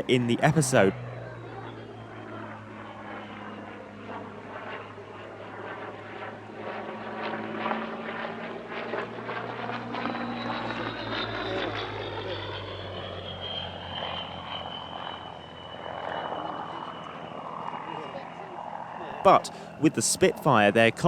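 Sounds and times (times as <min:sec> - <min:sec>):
propeller aircraft engine droning: 0:00.0 - 0:21.0.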